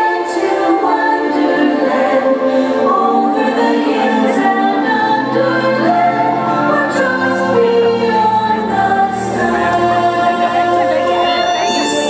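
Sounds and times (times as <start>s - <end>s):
choir singing over music: 0.0s - 12.0s.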